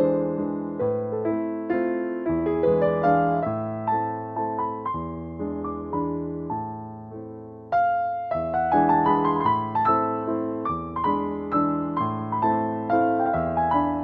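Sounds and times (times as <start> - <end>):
slow soft piano melody: 0.0 - 14.0.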